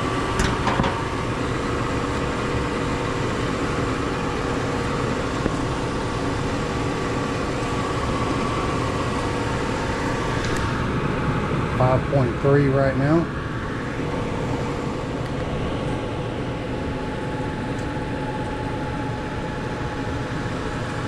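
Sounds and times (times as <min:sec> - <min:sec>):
blower motor humming: 0:00.0 - 0:21.0.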